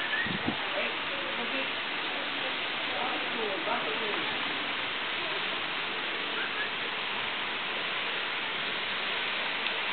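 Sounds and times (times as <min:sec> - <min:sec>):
running water rushing: 0:00.0 - 0:09.9.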